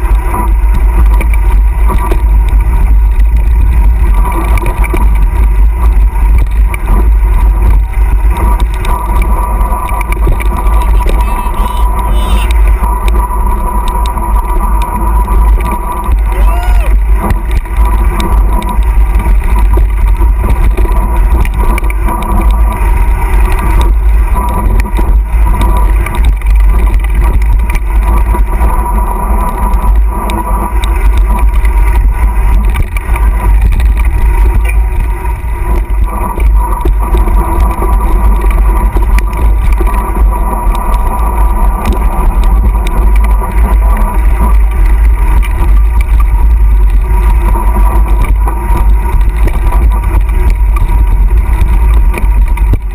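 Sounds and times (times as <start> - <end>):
bike tyres rattling over stones: 0.0 - 52.9
wind buffeting microphone: 0.0 - 52.9.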